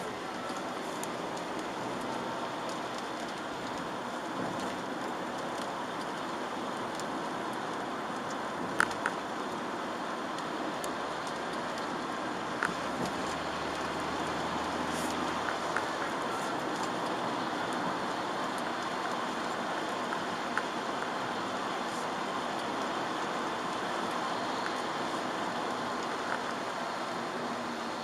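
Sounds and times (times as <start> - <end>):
tyres and rain hissing: 0.0 - 28.0.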